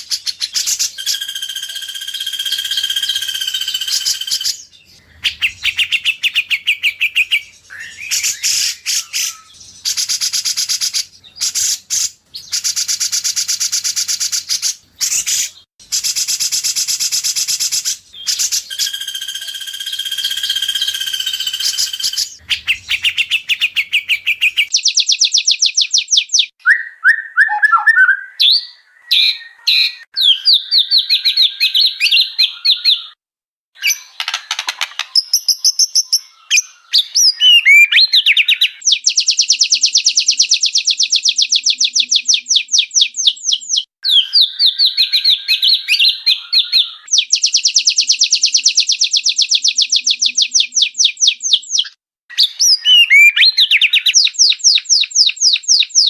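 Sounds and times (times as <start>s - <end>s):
bird trilling and whistling: 0.0s - 33.2s, 33.8s - 56.0s.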